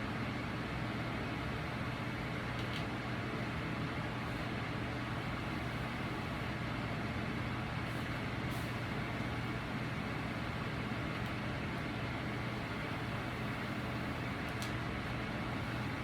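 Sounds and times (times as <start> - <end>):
mechanical hum with hiss: 0.0 - 16.0.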